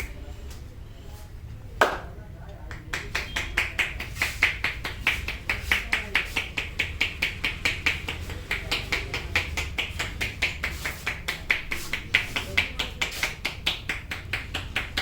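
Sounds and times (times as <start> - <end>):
hands slapping head: 1.8 - 2.1, 2.7 - 15.0.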